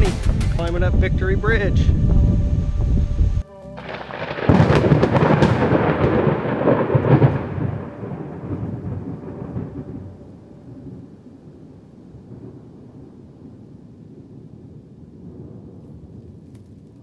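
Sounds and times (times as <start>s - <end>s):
thunderclap: 0.0s - 17.0s.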